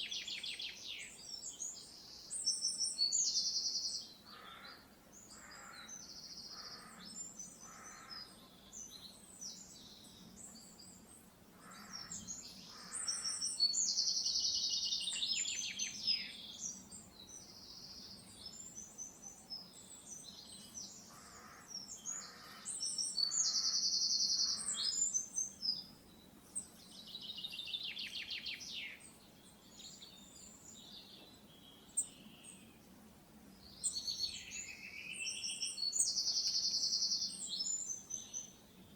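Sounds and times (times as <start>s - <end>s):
birds trilling and chirping: 2.4s - 38.9s.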